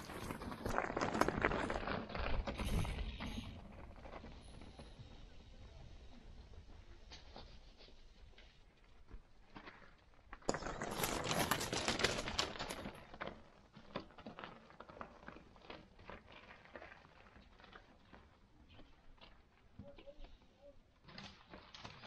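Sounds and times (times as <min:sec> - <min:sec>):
bike tyres crunching on gravel: 0:00.0 - 0:05.2, 0:08.4 - 0:22.0.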